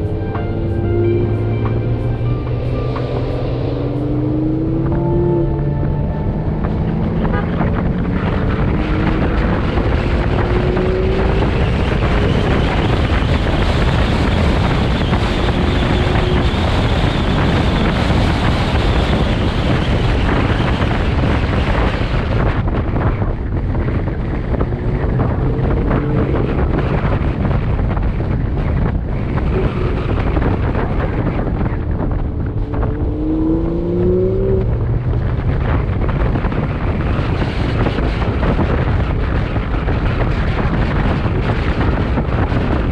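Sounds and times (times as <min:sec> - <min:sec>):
car engine revving: 0:00.0 - 0:23.0, 0:23.6 - 0:42.9
wind noise on microphone: 0:00.0 - 0:42.9.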